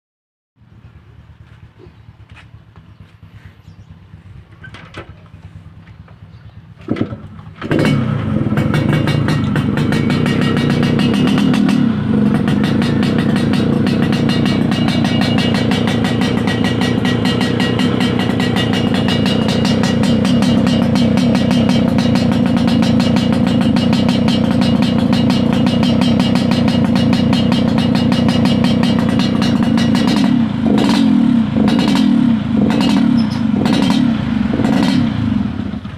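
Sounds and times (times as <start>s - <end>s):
two-stroke motorcycle engine revving: 5.4s - 35.9s.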